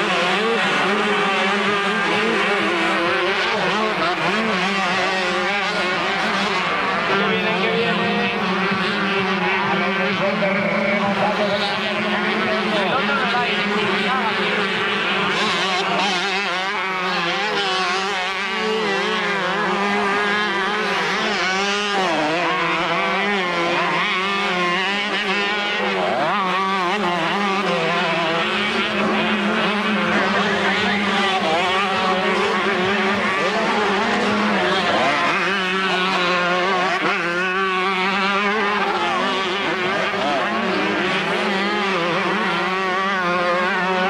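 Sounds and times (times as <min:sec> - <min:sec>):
motocross bikes revving: 0:00.0 - 0:44.0.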